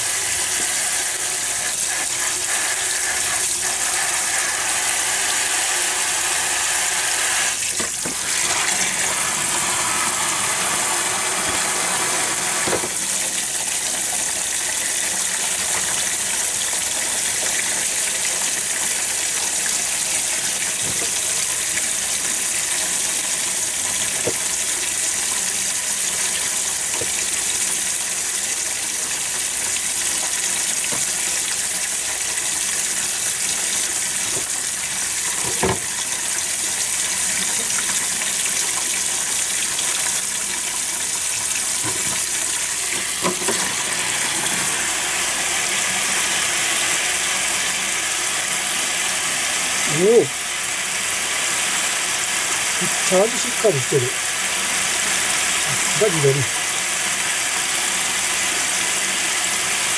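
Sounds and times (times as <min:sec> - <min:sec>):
tap water spraying into sink: 0:00.0 - 0:59.9.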